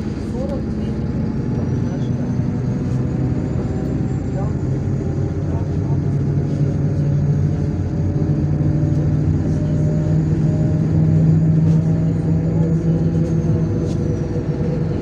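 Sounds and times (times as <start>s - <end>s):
diesel bus engine drone: 0.0s - 15.0s
road rumble: 0.0s - 15.0s.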